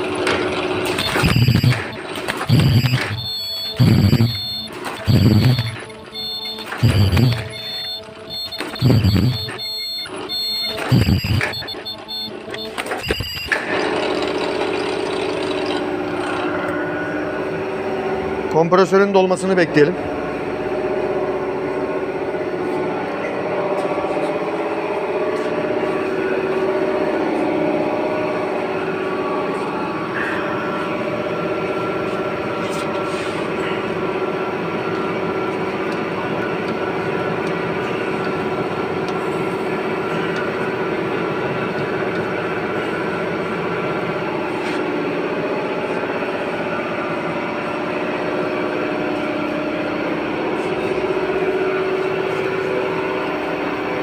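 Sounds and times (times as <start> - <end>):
air compressor running: 0.0 - 18.4, 20.0 - 54.0.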